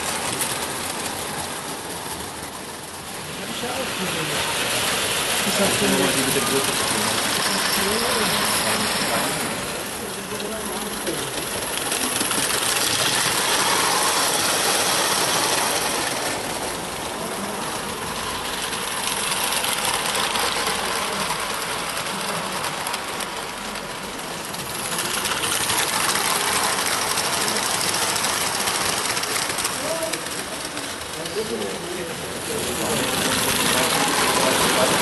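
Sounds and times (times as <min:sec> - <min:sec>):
toy train wheels clattering: 0:00.0 - 0:35.0.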